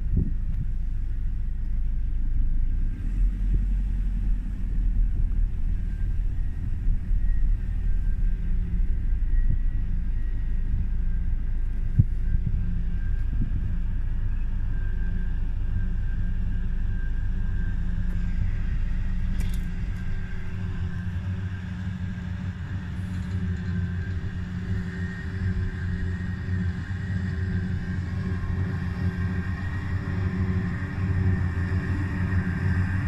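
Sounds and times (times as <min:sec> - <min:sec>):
deep rumble: 0:00.0 - 0:33.0
distant engine drone: 0:00.0 - 0:33.0
high whine: 0:00.0 - 0:33.0.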